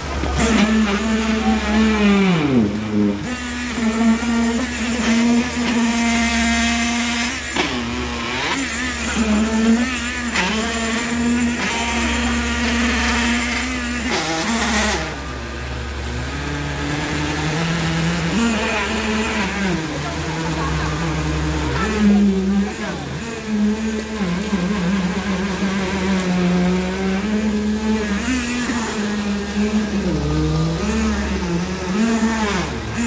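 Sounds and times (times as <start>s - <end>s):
concrete vibrator humming: 0.0s - 33.0s.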